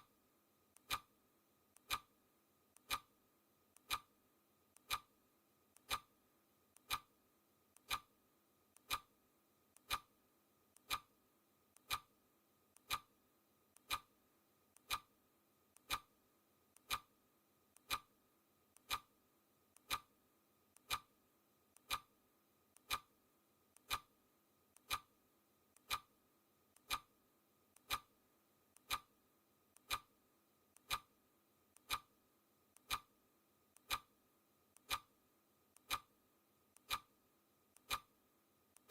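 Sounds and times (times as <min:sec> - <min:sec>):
timer ticking: 0:00.7 - 0:01.1, 0:01.7 - 0:02.1, 0:02.7 - 0:06.1, 0:06.7 - 0:09.1, 0:09.7 - 0:38.9.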